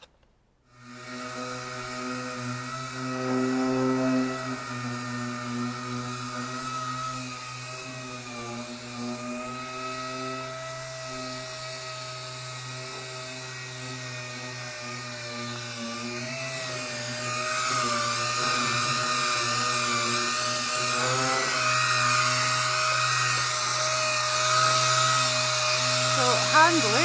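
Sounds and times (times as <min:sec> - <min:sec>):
air sander whining on metal: 0:00.7 - 0:27.0.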